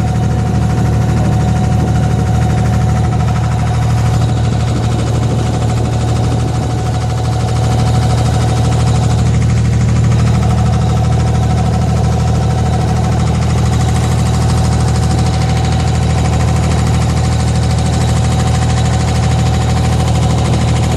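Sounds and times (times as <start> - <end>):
boat engine droning: 0.0 - 20.9.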